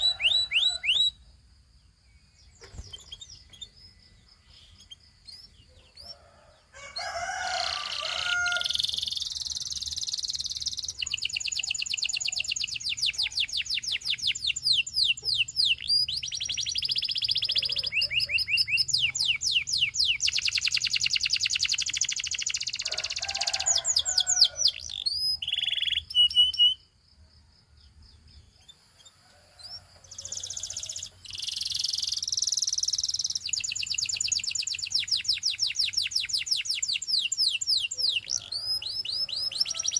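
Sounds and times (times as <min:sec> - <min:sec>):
canary singing trills: 0:00.0 - 0:01.2, 0:01.8 - 0:27.0, 0:27.9 - 0:39.9.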